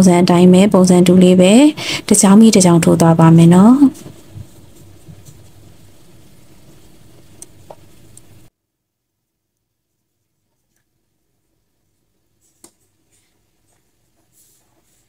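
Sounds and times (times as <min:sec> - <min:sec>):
steady hiss and hum: 0:00.0 - 0:15.0.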